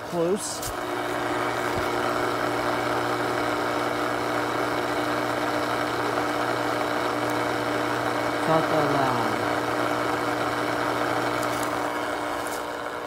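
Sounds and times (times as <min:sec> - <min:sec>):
pump motor humming: 0:00.0 - 0:13.0.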